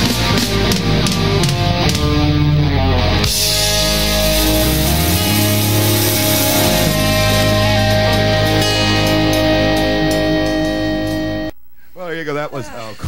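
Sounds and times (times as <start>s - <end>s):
instrumental rock song: 0.0s - 11.5s
electric guitar: 0.0s - 11.6s.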